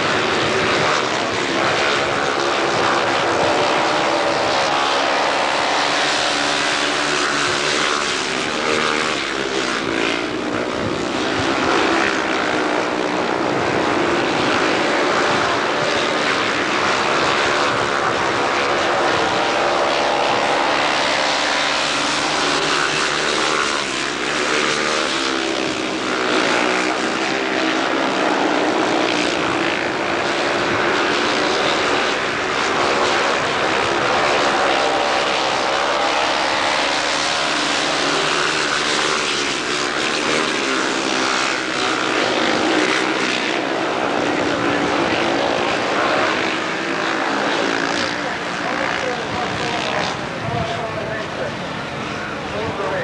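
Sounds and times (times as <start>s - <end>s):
motorcycle engines racing: 0.0s - 53.0s.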